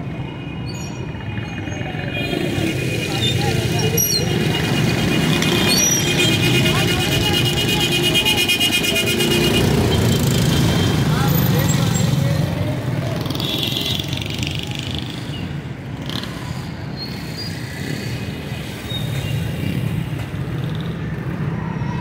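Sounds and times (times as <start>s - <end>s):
car engines passing: 1.0s - 22.0s
motorcycle engines passing: 1.0s - 22.0s.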